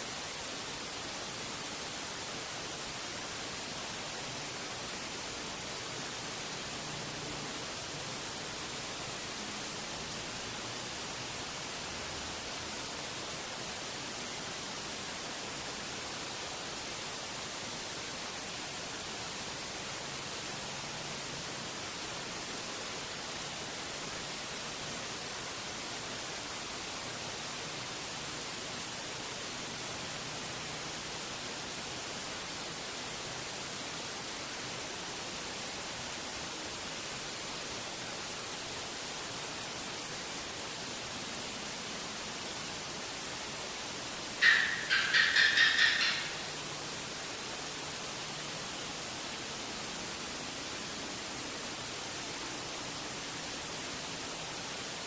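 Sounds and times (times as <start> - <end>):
static-like hiss: 0.0 - 55.0.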